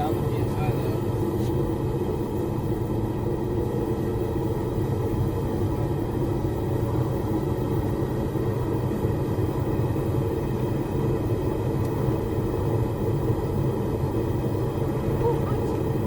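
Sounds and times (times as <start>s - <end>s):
forge burners rumbling: 0.0s - 16.0s.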